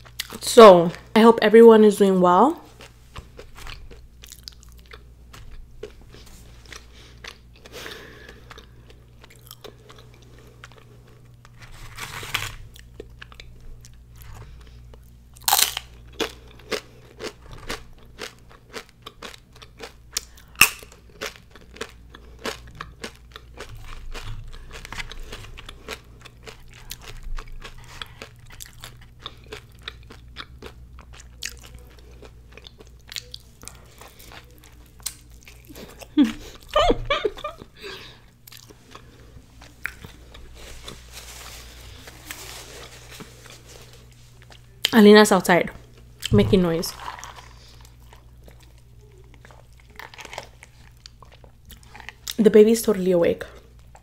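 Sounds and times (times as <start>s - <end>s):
person crunching chips: 2.7s - 45.0s, 45.8s - 52.4s.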